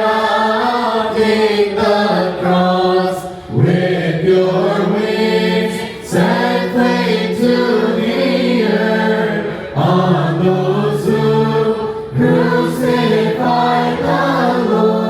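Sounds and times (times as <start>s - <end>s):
church choir chanting: 0.0s - 15.0s.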